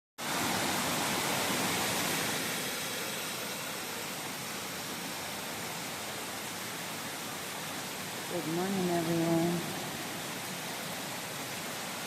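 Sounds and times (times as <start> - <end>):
flowing water: 0.2 - 12.0.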